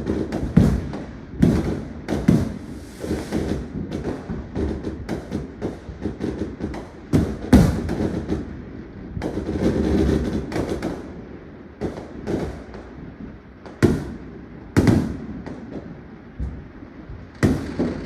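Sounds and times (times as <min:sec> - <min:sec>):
firework bangs: 0:00.0 - 0:18.0
firework crackling: 0:00.0 - 0:18.0.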